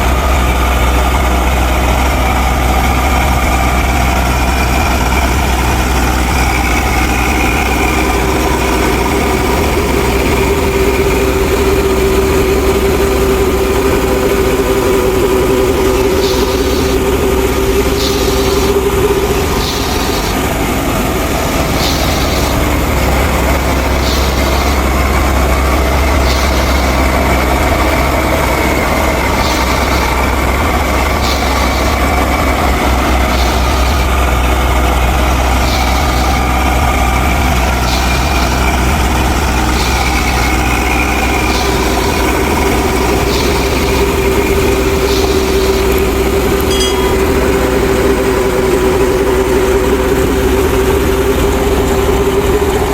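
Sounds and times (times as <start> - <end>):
steady tone: 0.0 - 52.9
tractor and thresher humming: 0.0 - 52.9.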